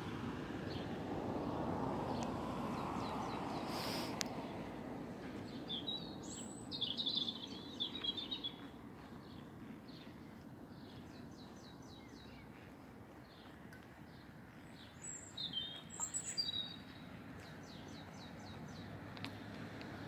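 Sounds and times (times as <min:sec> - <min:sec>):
small birds singing: 0:00.6 - 0:19.4.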